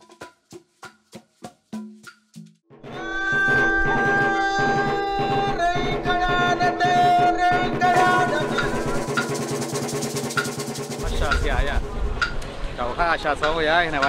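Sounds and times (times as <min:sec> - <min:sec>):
drum beat: 0:00.0 - 0:12.4.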